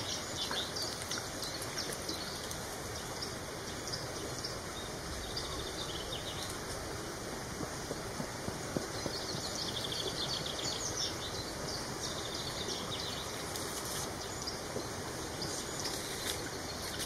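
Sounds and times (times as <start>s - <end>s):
background hiss: 0.0s - 17.0s
songbird chirps: 0.0s - 17.0s.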